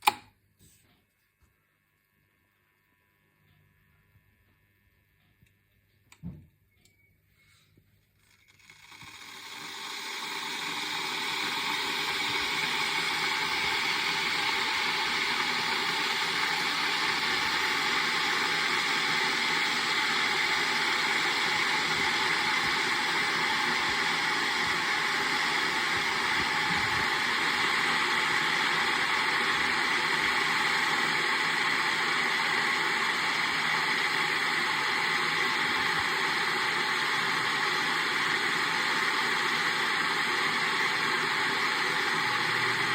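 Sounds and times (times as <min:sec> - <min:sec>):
kettle boiling: 0:08.2 - 0:42.9.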